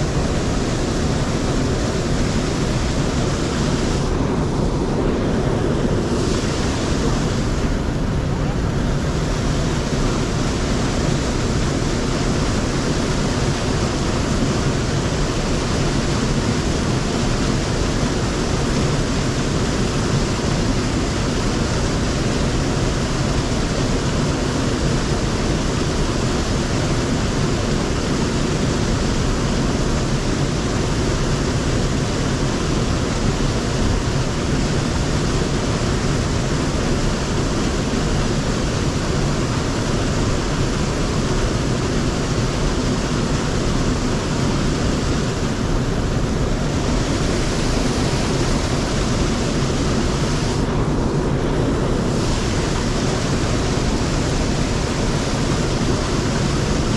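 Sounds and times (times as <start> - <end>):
stream water flowing over rocks: 0.0 - 56.9.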